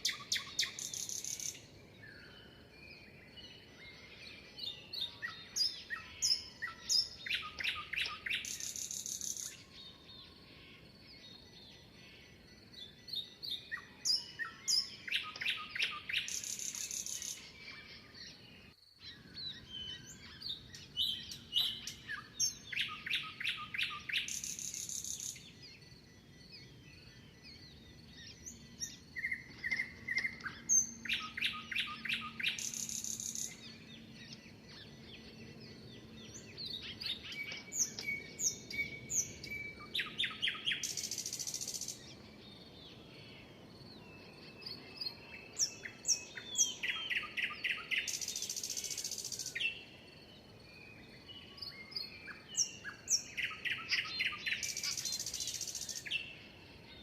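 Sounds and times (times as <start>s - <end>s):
bird chirps and calls: 0.0s - 2.7s, 3.5s - 18.4s, 19.0s - 49.9s, 51.1s - 56.5s
bird song with buzzy trill: 0.0s - 10.6s, 11.2s - 57.0s.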